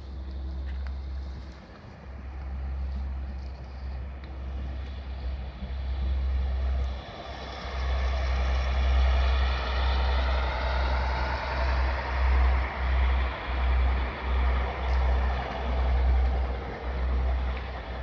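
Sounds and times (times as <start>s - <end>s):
train wheel and rail noise: 0.0s - 18.0s.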